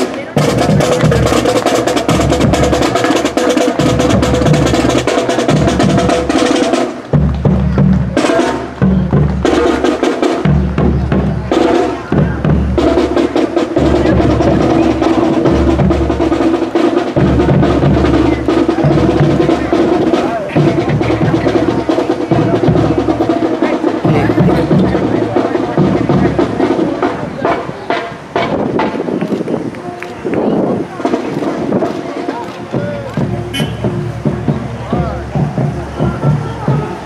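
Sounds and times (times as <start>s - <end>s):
snare drum rolls: 0.0s - 29.6s, 30.4s - 37.0s
bass drum beats: 0.0s - 29.7s, 30.3s - 37.0s.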